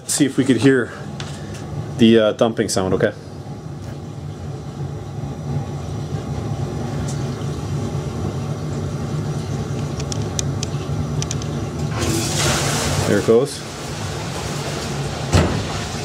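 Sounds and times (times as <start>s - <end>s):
sewage pump humming: 0.0s - 16.0s.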